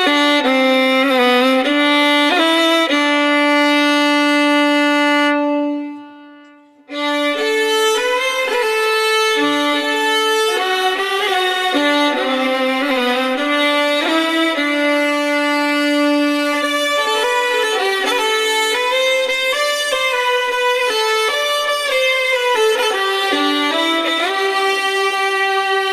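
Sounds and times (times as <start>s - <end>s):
layered violins in harmony: 0.0s - 25.9s
solo violin held note: 0.0s - 25.9s.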